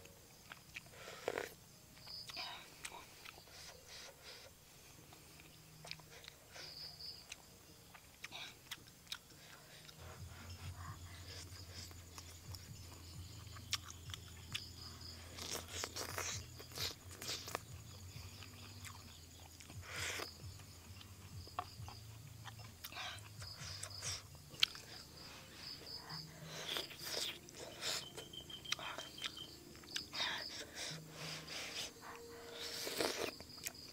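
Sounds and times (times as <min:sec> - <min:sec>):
person chewing crunchy food: 0:00.0 - 0:33.9.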